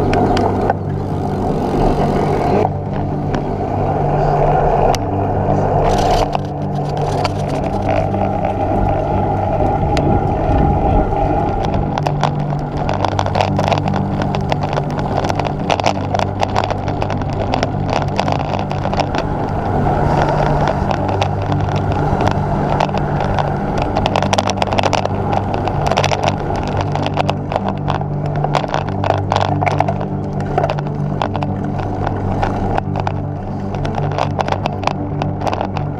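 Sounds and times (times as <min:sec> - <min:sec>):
bicycle rattling clicks and knocks: 0:00.0 - 0:03.4, 0:05.8 - 0:35.9
bicycle road rumble: 0:00.0 - 0:35.9
wind: 0:00.0 - 0:35.9.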